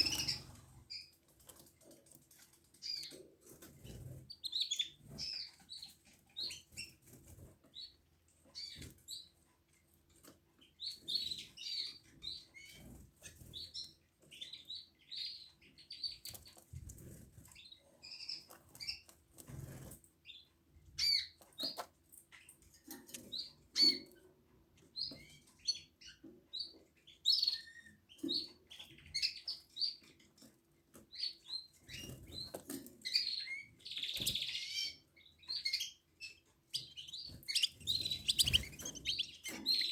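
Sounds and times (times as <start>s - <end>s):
canaries chirping: 0.0s - 39.9s.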